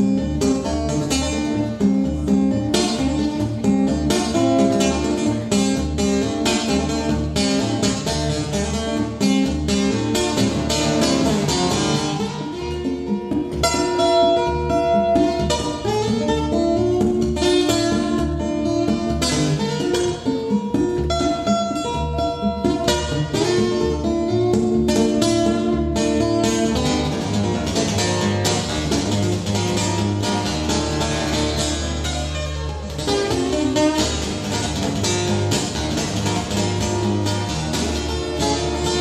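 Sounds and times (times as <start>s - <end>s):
acoustic guitar playing: 0.0s - 39.0s.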